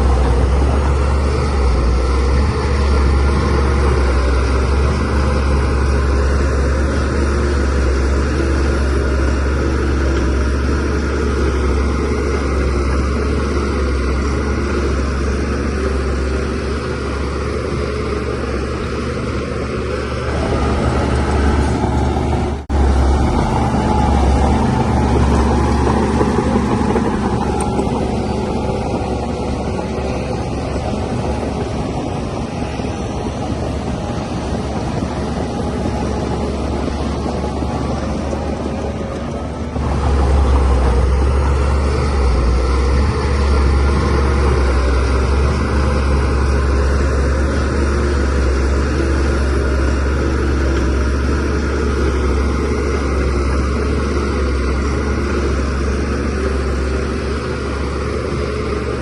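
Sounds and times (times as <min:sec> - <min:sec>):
bulldozer diesel engine rumbling: 0:00.0 - 0:59.0.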